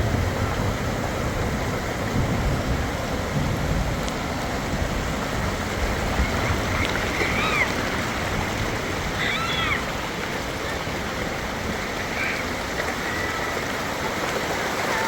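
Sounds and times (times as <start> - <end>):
wind buffeting microphone: 0.0 - 14.8
heavy rain and wind: 0.0 - 15.0.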